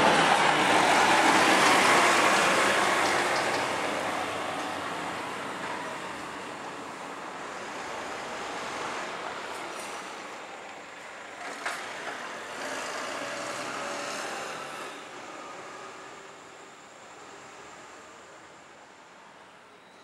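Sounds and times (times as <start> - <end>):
garbage truck diesel engine: 0.0 - 18.5.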